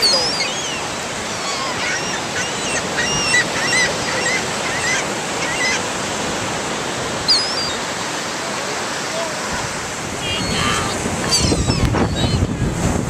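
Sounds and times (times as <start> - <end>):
gulls squawking: 0.0 - 12.7
ocean surf: 0.0 - 13.0
wind: 0.0 - 13.0.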